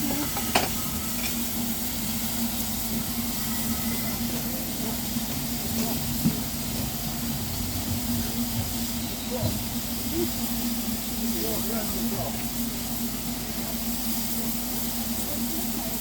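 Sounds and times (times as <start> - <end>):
hiss of escaping steam: 0.0 - 16.0.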